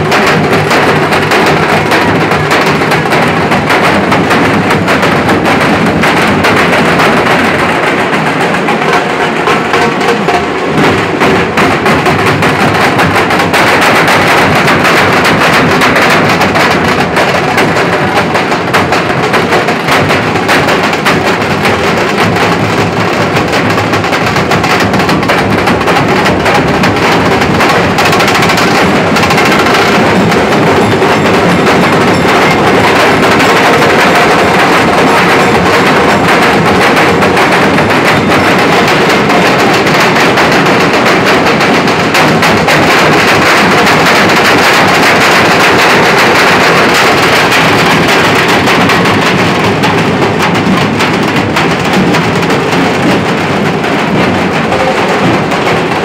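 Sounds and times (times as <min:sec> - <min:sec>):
dhol drums beaten fast: 0:00.0 - 0:56.0.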